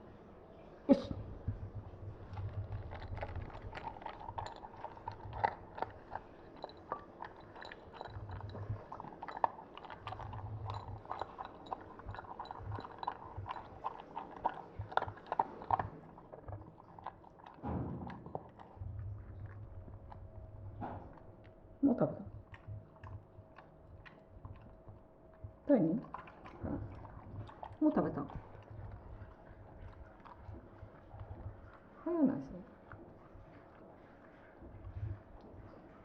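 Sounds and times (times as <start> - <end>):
dog chewing and crunching food: 1.2 - 36.0.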